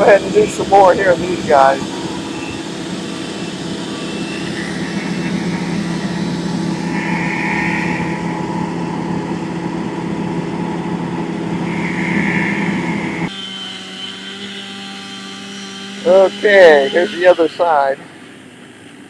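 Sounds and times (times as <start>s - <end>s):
branches rasping through chipper: 0.0s - 19.0s
wood chipper engine: 0.0s - 19.0s.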